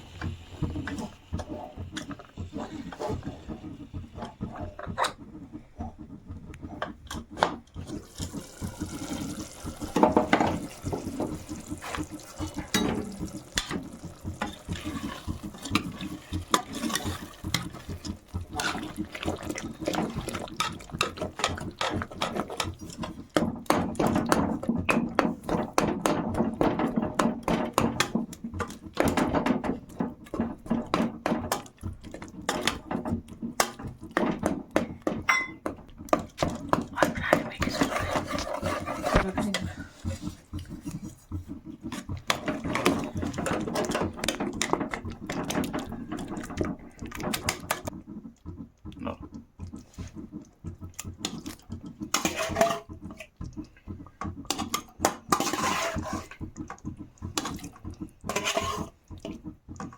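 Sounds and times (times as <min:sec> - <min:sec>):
water sloshing and pouring: 0:00.0 - 0:59.9.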